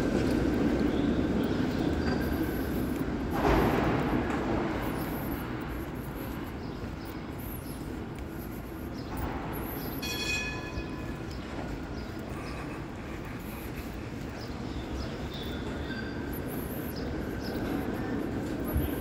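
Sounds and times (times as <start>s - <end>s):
traffic hum: 0.0s - 19.0s.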